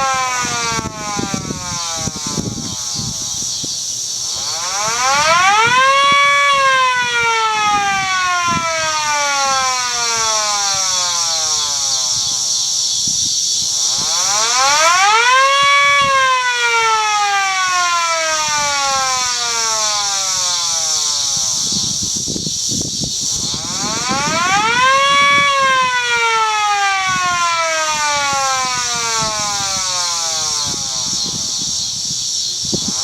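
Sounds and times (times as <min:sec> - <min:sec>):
mechanical siren wailing: 0:00.0 - 0:33.0.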